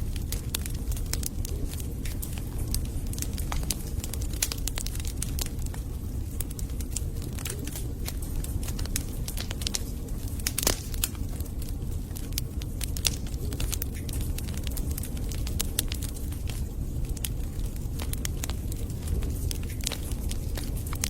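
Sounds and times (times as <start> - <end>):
burning logs crackling and popping: 0.0 - 21.0
fire flames rumbling: 0.0 - 21.0.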